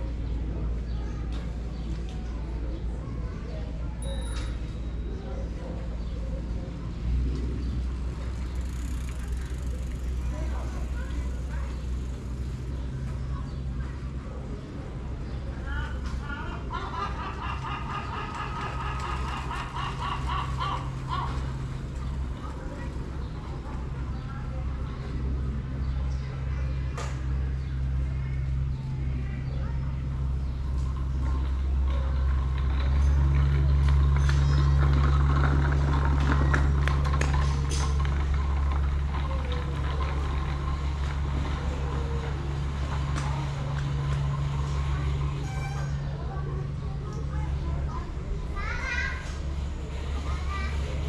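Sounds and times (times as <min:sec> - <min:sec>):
faint street sounds: 0:00.0 - 0:51.0
steady low hum: 0:00.0 - 0:51.0.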